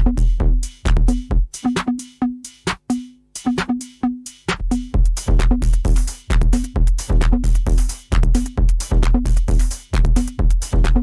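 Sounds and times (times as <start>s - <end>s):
drum machine kicks: 0.0s - 11.0s.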